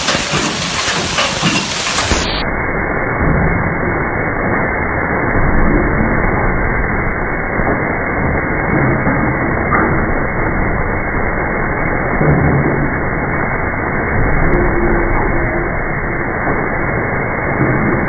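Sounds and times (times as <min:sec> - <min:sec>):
faint hums: 0:00.0 - 0:18.0
forging machine mechanical din: 0:00.0 - 0:18.0.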